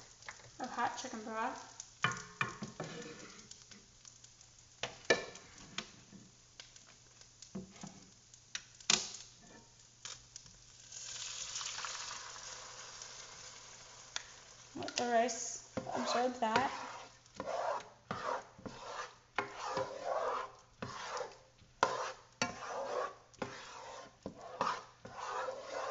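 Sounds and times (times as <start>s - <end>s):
broth sizzling in pan: 0.0s - 25.9s.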